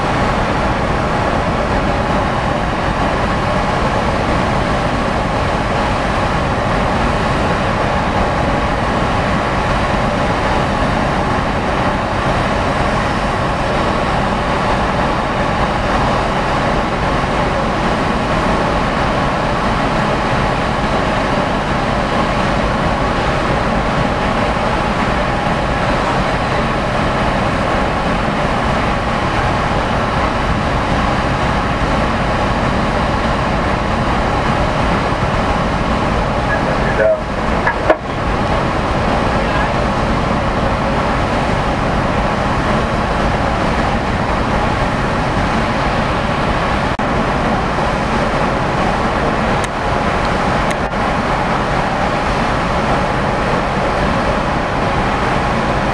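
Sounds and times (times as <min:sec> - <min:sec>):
ship diesel engines droning: 0:00.0 - 0:55.9.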